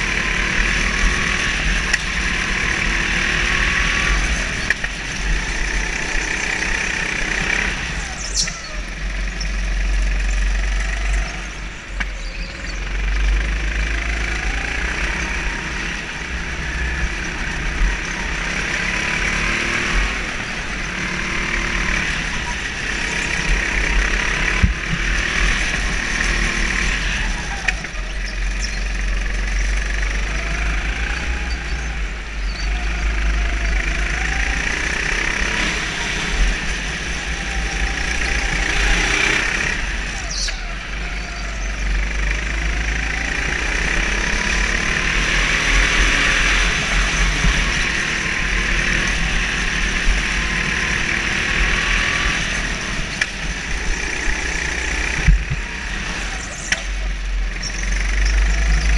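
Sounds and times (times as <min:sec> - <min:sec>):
go-kart engine revving: 0:00.0 - 0:58.9.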